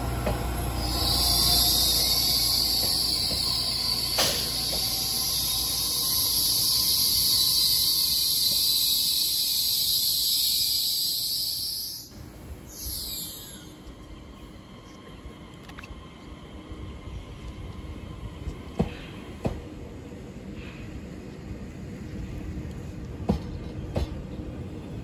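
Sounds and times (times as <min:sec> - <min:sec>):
electric train rolling: 0:00.0 - 0:25.0.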